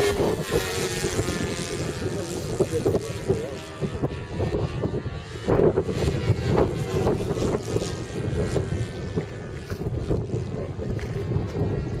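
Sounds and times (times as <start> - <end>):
model plane motor whine: 0.0 - 12.0
wind buffeting microphone: 0.0 - 12.0.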